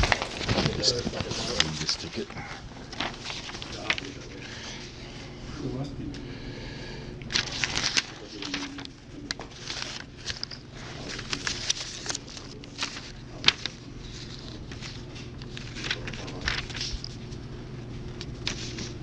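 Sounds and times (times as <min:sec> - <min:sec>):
rustling and handling noises: 0:00.0 - 0:05.9, 0:07.3 - 0:19.0
steady low hum: 0:00.0 - 0:19.0.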